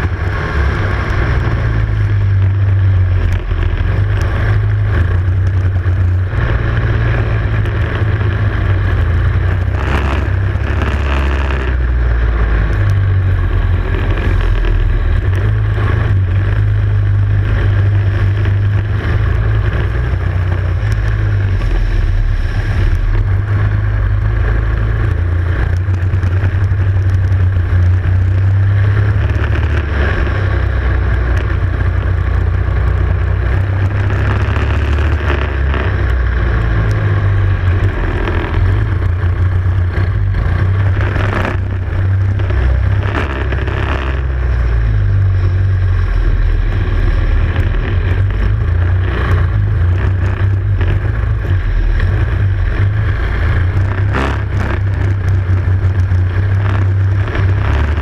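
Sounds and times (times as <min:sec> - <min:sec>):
heavy low rumble: 0:00.0 - 0:58.0
kart engine running: 0:00.0 - 0:58.0.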